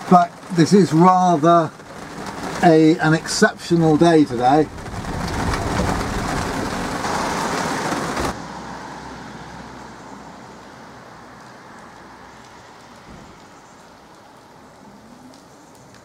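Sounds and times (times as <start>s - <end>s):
heavy rain on enclosed shell: 0.0s - 16.0s
rain on a wet street: 0.0s - 16.0s.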